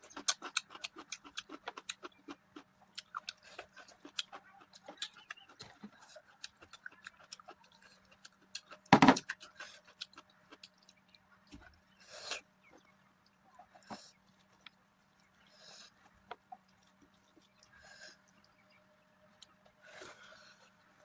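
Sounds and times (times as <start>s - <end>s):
person chewing food: 0.0s - 18.7s.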